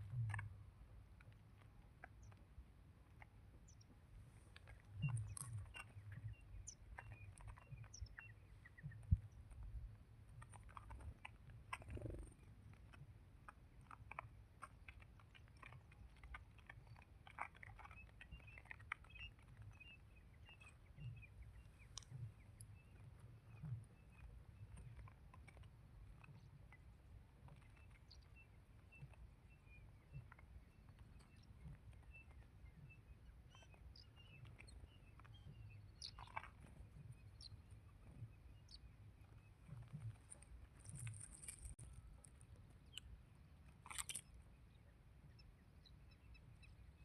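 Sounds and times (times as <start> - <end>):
faint clicks and taps: 0.0 - 44.8.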